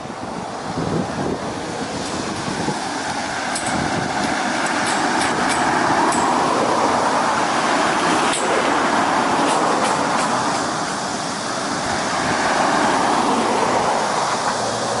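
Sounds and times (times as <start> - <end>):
cars approaching: 0.0 - 15.0.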